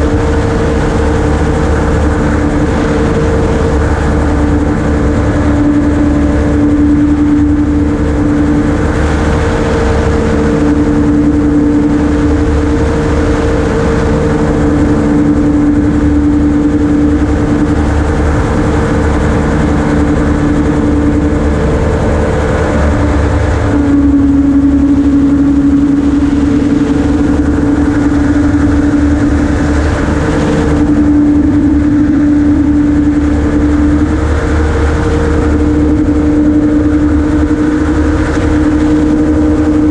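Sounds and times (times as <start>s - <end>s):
gyroplane engine and propeller drone: 0.0s - 39.9s.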